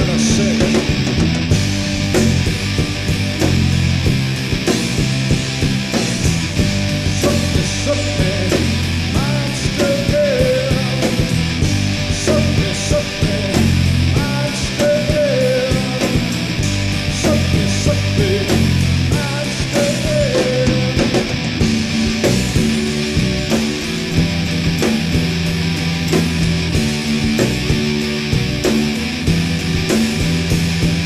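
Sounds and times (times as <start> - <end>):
bass guitar: 0.0 - 31.0
drum beat: 0.0 - 31.0
lead electric guitar: 0.0 - 31.0.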